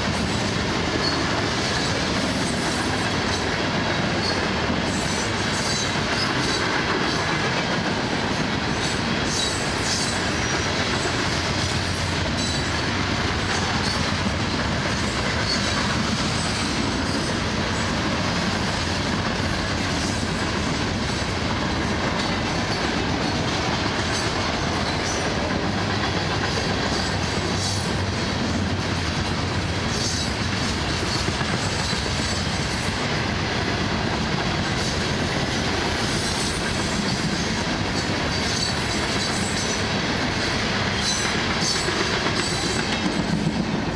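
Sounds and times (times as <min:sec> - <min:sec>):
freight train rumbling past: 0:00.0 - 0:43.9
wheels clicking over rail joints: 0:00.0 - 0:43.9.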